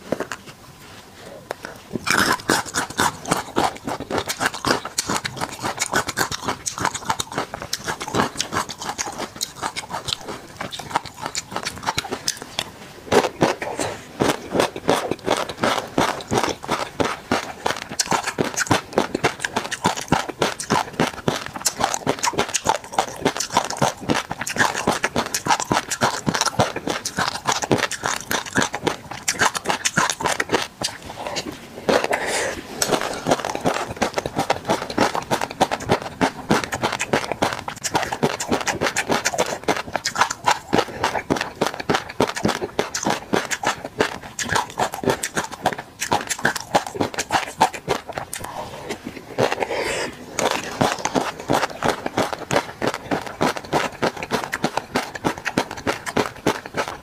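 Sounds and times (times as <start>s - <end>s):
fish roe popping while chewed: 1.5s - 57.0s.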